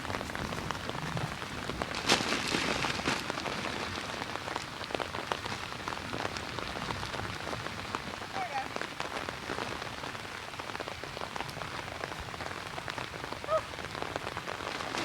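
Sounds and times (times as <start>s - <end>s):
hard rain falling: 0.0s - 15.0s.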